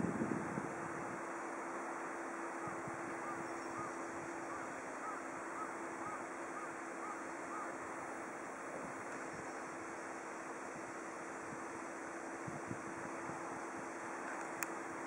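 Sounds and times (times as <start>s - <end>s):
distant railcar engine hum: 0.0s - 15.0s
rushing wind: 0.0s - 15.0s.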